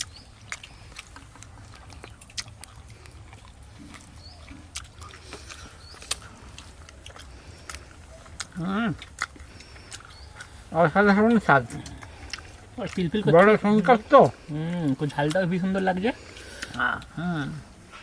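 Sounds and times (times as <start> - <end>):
low steady hum: 0.0 - 18.0
mouth clicks and chewing: 0.0 - 18.0.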